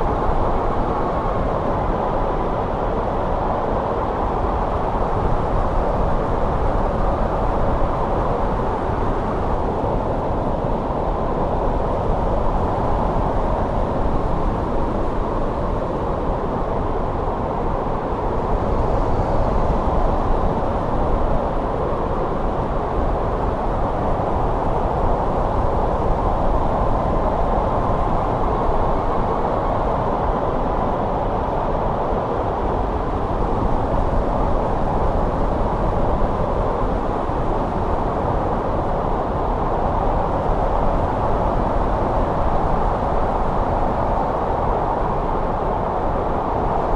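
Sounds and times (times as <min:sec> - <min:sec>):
snowstorm wind rushing: 0:00.0 - 0:46.9.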